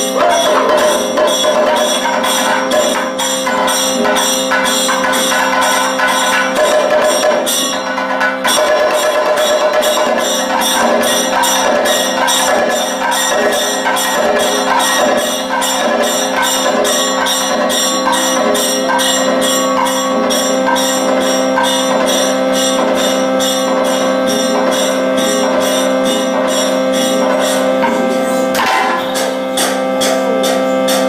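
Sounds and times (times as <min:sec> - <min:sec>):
hand cymbals striking a beat: 0:00.0 - 0:31.0
held drone tones: 0:00.0 - 0:31.0
melody line: 0:00.0 - 0:31.0.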